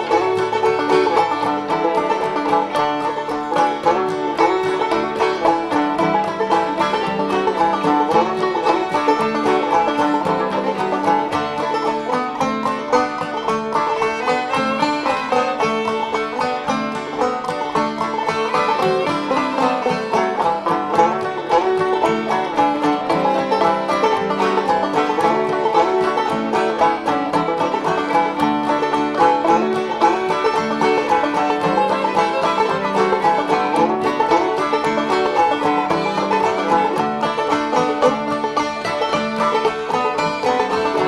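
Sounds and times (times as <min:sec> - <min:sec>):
fast banjo picking: 0:00.0 - 0:41.0.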